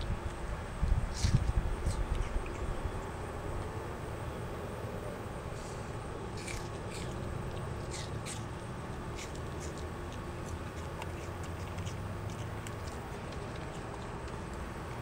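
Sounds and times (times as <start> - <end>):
low background hum: 0.0 - 15.0
monkey chewing apple crunches: 0.2 - 3.8, 5.5 - 15.0.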